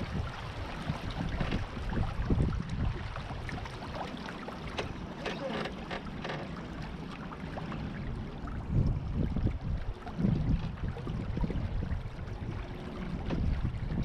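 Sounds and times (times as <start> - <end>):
water splashing along hull: 0.0 - 14.0
wind rumbling on microphone: 0.0 - 14.0.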